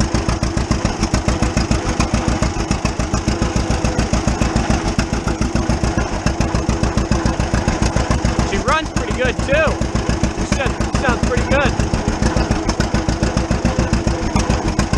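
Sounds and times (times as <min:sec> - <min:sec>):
tractor engine popping exhaust: 0:00.0 - 0:14.9.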